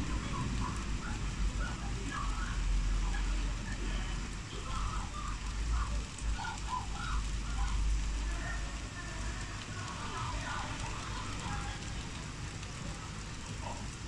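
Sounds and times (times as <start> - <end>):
constant low rumble: 0.0 - 14.0
rain on roofs and pavement: 0.0 - 14.0.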